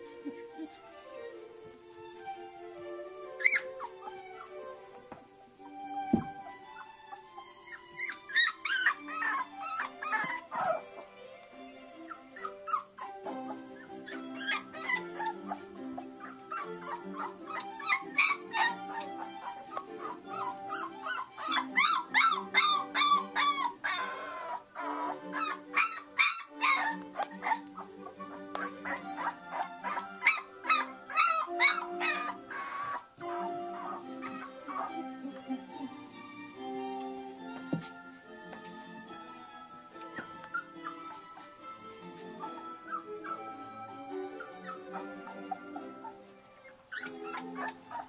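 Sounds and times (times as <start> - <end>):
puppy whimpering and squealing: 0.0 - 1.2, 3.2 - 4.8, 5.6 - 36.5, 40.1 - 48.0
background music with sustained notes: 0.0 - 48.0.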